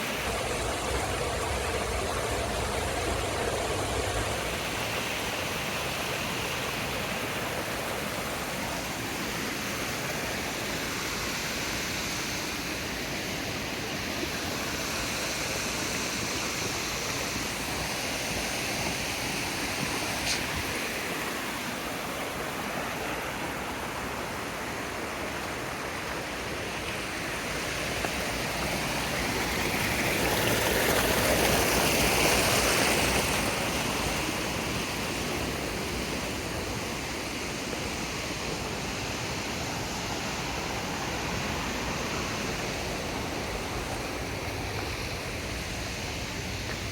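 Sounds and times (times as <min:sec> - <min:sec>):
water rushing in stream: 0:00.0 - 0:46.9.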